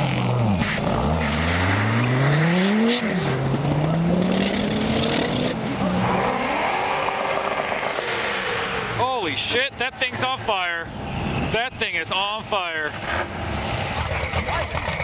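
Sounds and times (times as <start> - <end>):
car engines accelerating: 0.0 - 15.0.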